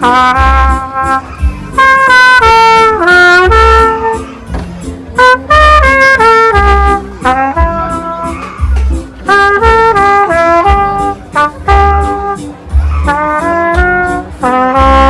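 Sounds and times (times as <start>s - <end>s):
melody over deep bass beats: 0.0s - 15.0s.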